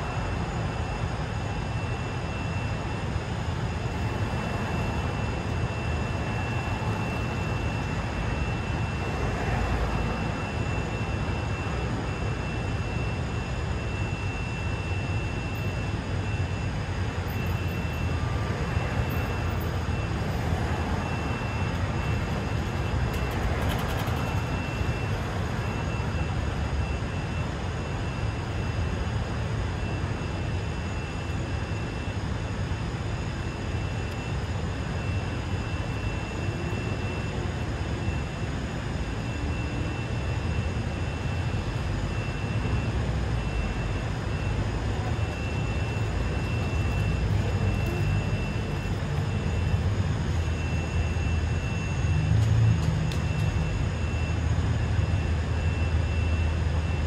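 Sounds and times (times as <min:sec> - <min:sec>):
low rumble of traffic: 0:00.0 - 0:57.0
thin high whine: 0:00.0 - 0:57.0.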